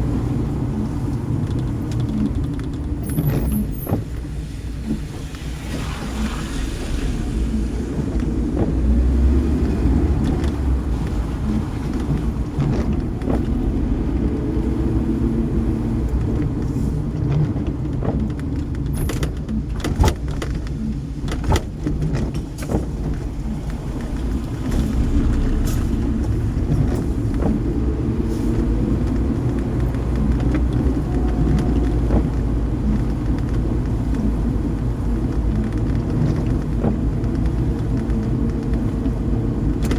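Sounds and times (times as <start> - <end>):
sharp clicks and ticks: 0.0 - 5.5, 7.0 - 39.9
car road and engine rumble: 0.0 - 39.9.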